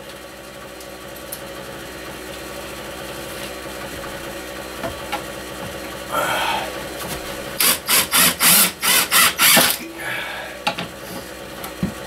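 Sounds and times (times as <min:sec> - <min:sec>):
steady machine hum: 0:00.4 - 0:12.0.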